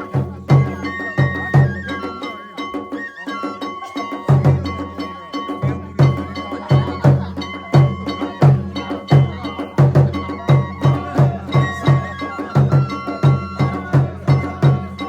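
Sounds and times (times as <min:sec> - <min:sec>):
drum beating heavy strokes: 0:00.0 - 0:15.0.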